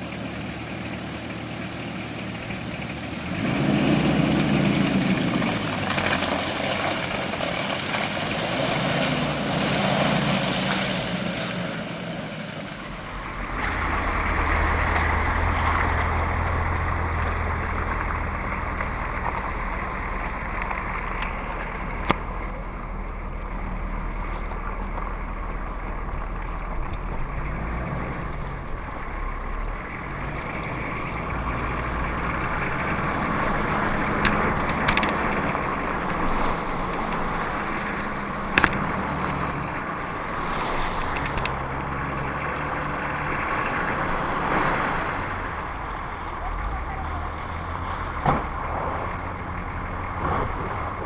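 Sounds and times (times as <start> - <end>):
tyres churning through mud and water: 0.0 - 51.0
vehicle engine running: 0.0 - 51.0
vehicle knocking over ruts: 0.0 - 51.0.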